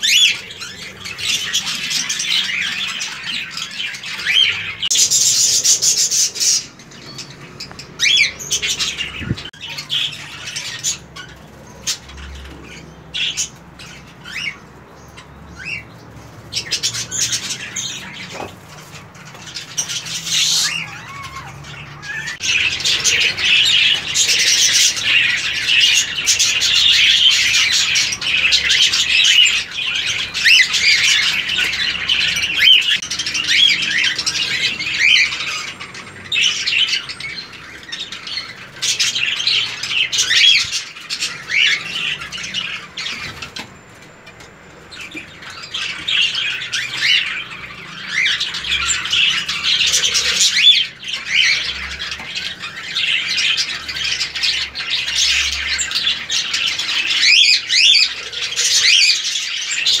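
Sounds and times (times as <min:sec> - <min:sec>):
cockatiels chattering: 0:00.0 - 1:00.0.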